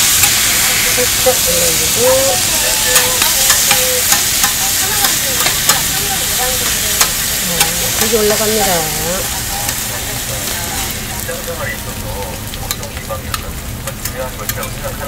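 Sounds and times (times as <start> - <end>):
tongs and spatula tapping metal: 0.0 - 9.8, 12.5 - 15.0
food sizzling on a griddle: 0.0 - 15.0.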